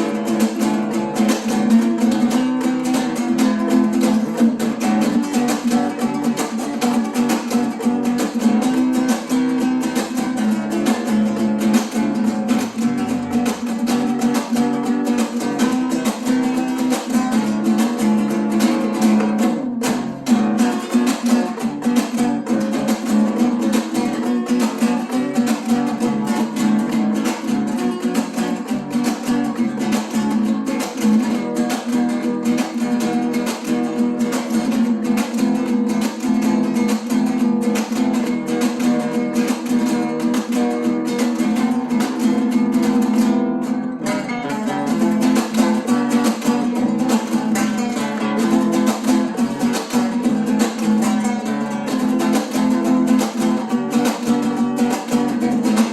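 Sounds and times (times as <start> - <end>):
strummed acoustic guitar music: 0.0 - 55.9.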